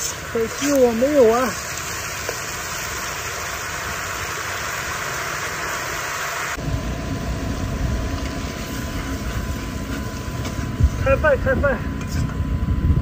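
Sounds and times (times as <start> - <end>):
cabbage sizzling in a wok: 0.0 - 11.0
steady low hum: 0.0 - 13.0.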